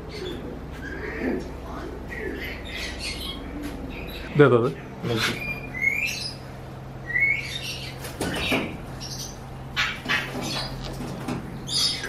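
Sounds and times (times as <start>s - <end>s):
birds chirping and squawking: 0.0s - 12.0s
steady low hum: 0.0s - 12.0s.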